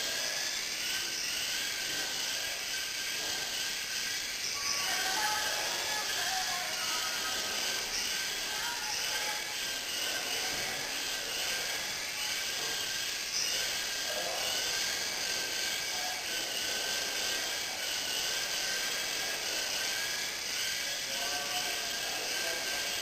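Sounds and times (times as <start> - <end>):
rc helicopter motor whine: 0.0 - 23.0.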